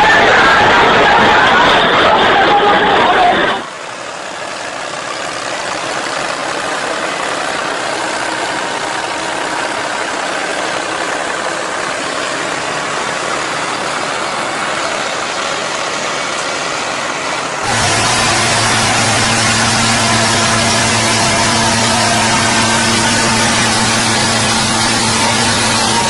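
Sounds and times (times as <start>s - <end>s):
vehicle engine running: 3.2s - 26.0s.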